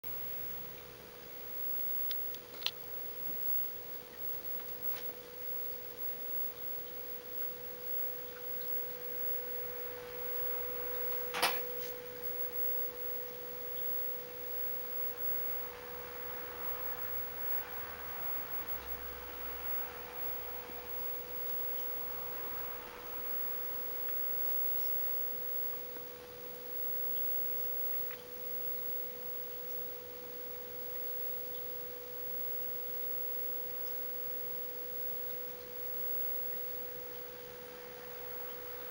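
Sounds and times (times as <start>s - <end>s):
steady mid-pitched hum: 0.0s - 38.9s.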